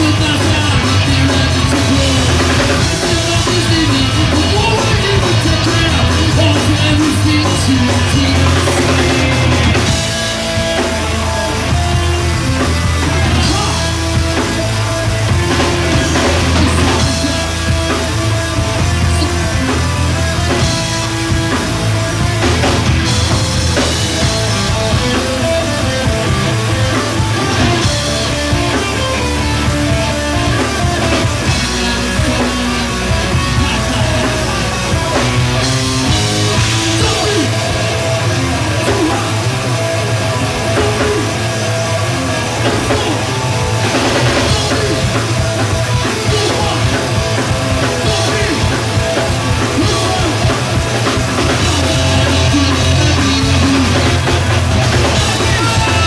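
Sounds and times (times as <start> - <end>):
rock song with drums and guitar: 0.0 - 56.0.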